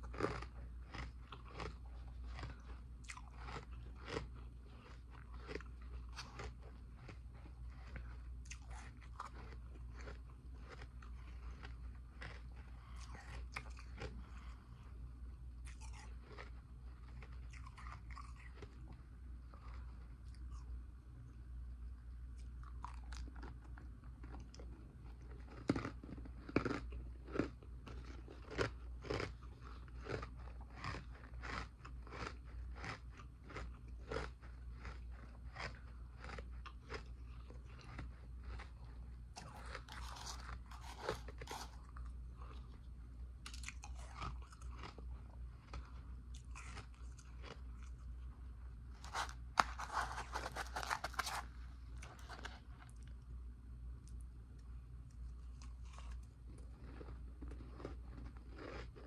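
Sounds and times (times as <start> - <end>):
ice crunching while chewed: 0.0 - 15.0, 15.6 - 20.8, 22.0 - 53.3, 55.0 - 59.0.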